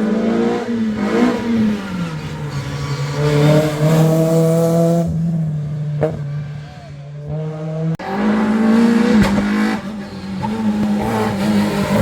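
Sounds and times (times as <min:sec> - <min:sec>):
rally car engine revving high: 0:00.0 - 0:12.0.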